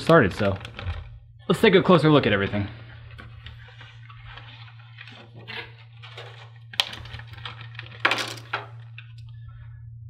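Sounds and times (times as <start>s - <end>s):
plastic bag crinkling: 0.0s - 9.1s
steady low hum: 0.0s - 10.0s.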